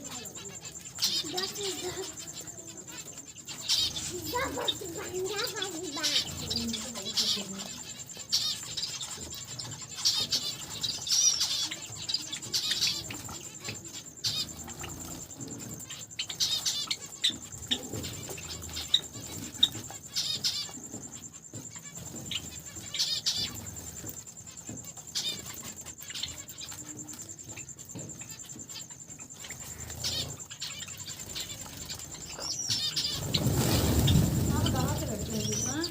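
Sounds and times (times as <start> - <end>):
finches chirping: 0.0 - 35.9
light clicks of birds moving: 0.0 - 35.9
wing flutters: 0.0 - 35.9.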